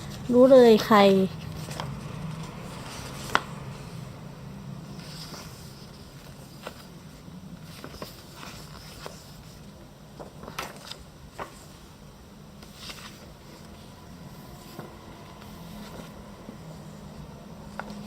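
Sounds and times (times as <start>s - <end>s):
paper rustling: 0.0s - 3.6s, 4.9s - 11.9s, 12.6s - 18.0s
steady low hum: 0.0s - 18.0s.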